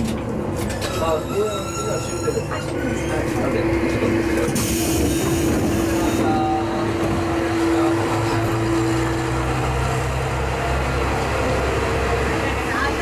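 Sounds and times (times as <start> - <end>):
railcar mechanical hum: 0.0 - 13.0.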